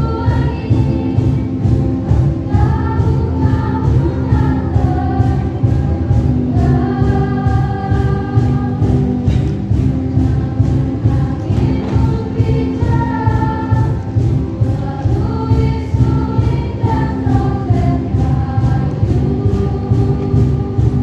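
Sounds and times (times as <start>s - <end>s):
music with steady beat and melody: 0.0s - 21.0s.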